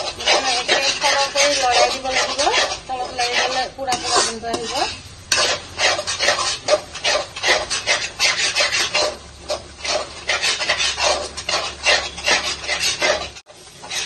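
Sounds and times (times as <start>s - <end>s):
metal spatula scraping a pan: 0.0s - 14.0s.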